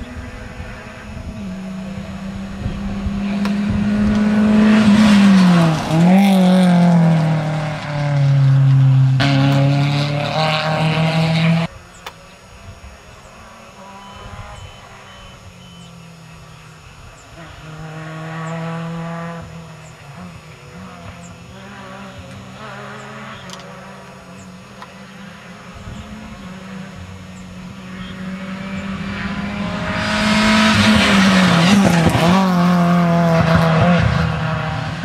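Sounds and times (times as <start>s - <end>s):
rally car engine passing: 0.0s - 12.0s, 12.8s - 35.0s.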